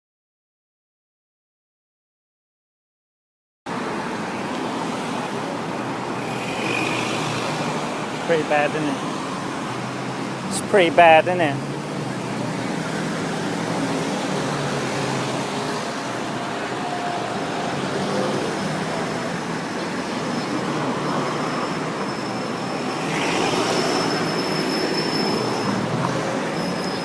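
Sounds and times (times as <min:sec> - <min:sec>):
road noise: 0:03.7 - 0:27.0.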